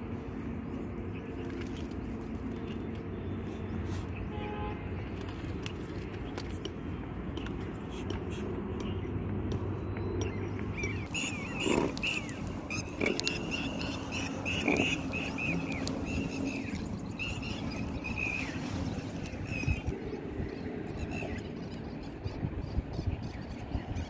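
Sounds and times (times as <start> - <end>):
low outdoor background noise: 0.0 - 24.0.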